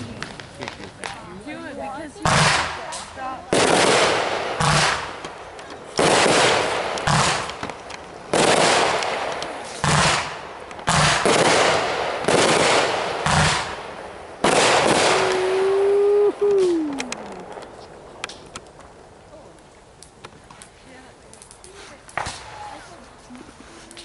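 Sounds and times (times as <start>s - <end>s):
fireworks bangs with hiss: 0.0s - 19.0s, 20.0s - 24.0s.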